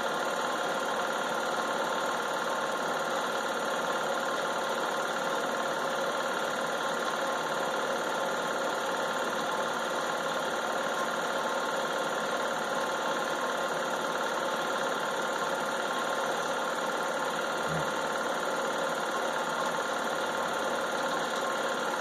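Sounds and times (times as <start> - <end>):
film projector whirring: 0.0 - 22.0.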